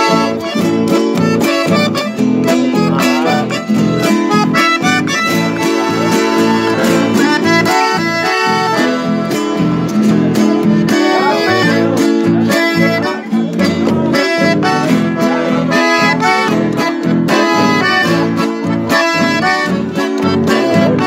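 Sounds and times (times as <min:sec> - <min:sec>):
piano accordion melody: 0:00.0 - 0:21.0
strummed acoustic guitar: 0:00.0 - 0:21.0.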